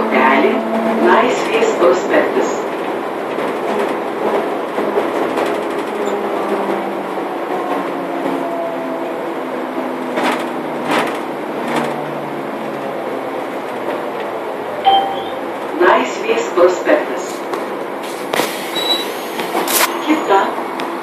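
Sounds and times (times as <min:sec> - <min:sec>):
trolleybus running and road noise: 0:00.0 - 0:21.0.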